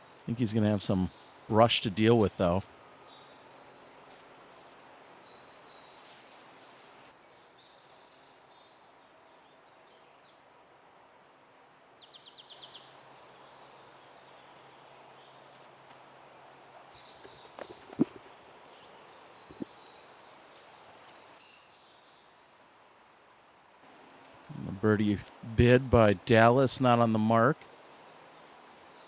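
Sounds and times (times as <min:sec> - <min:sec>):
outdoor background noise: 0:00.0 - 0:29.0
songbirds chirping: 0:00.0 - 0:29.0.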